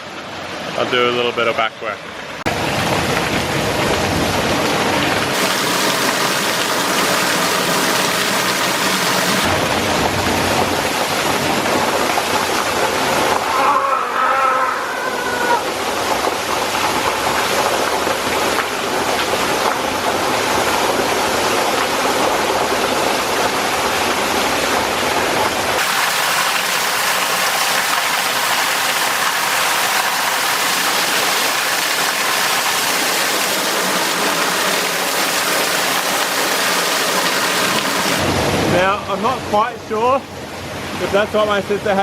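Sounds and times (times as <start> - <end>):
waterfall splashing: 2.3 - 42.0.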